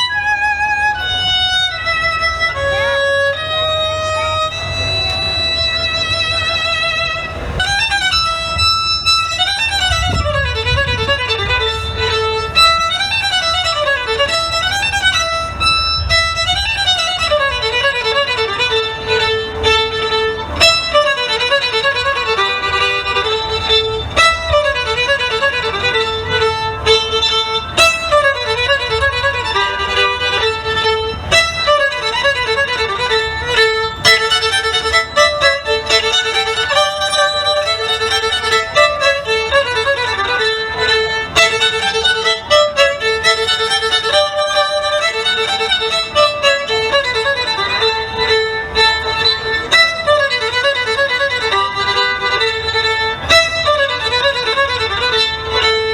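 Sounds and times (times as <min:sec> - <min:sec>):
violin playing fast: 0:00.0 - 0:55.9.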